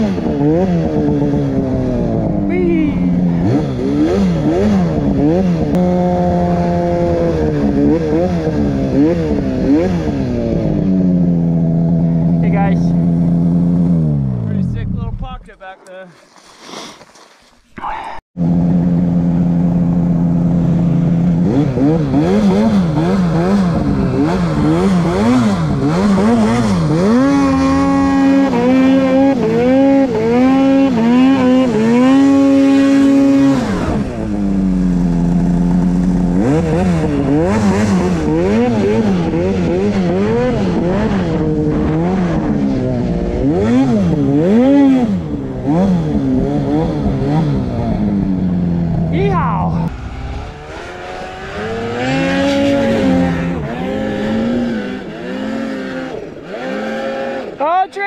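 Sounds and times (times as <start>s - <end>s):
snowmobile engine revving: 0.0s - 16.0s, 18.4s - 58.0s.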